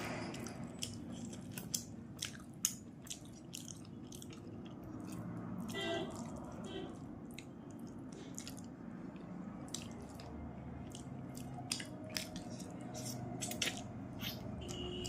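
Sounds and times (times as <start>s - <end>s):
wet chewing of food: 0.0s - 15.0s.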